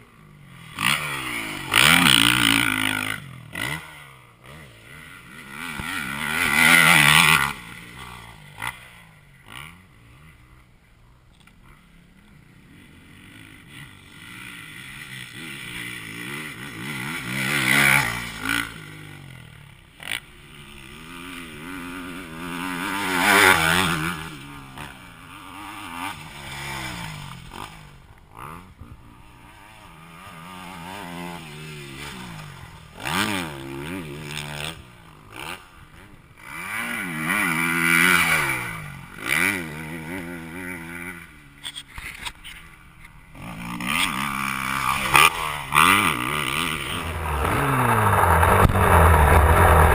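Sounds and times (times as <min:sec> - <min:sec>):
distant motorcycle engines: 0:00.0 - 0:49.9
motocross bikes racing past: 0:00.0 - 0:49.9.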